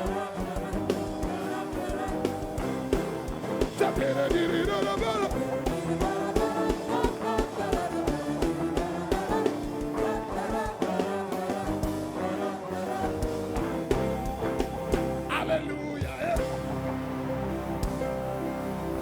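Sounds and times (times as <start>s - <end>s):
drum beat: 0.0s - 15.4s, 16.0s - 16.8s
band playing gospel music: 0.0s - 19.0s
people singing: 0.0s - 19.0s.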